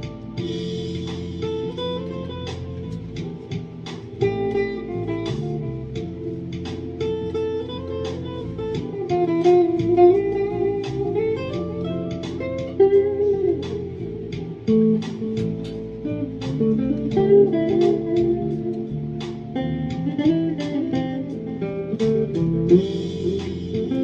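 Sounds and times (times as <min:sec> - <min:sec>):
electric guitar lead notes: 0:00.0 - 0:24.0.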